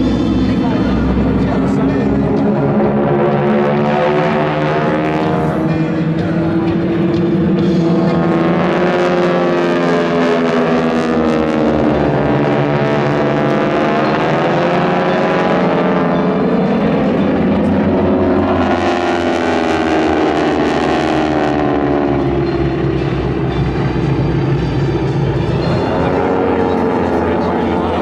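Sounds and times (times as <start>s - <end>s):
propeller planes droning overhead: 0.0s - 28.0s.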